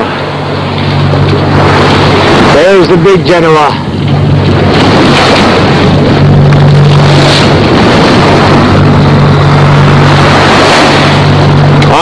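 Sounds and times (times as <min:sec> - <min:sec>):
constant low hum: 0:00.0 - 0:12.0
water streaming past hull: 0:00.0 - 0:12.0
wind buffeting the microphone: 0:00.0 - 0:12.0.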